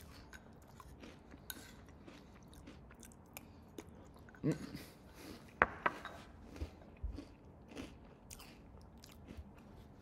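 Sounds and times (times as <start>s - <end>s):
cereal crunching while chewed: 0.0s - 4.4s, 6.1s - 10.0s.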